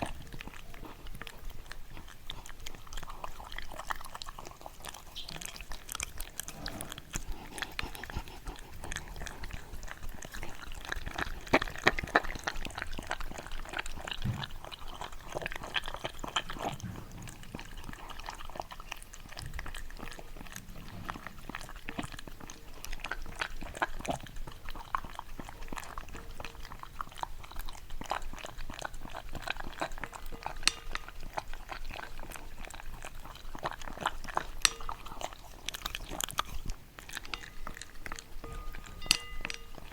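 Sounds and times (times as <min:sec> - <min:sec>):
dog chewing and crunching: 0:00.0 - 0:39.9.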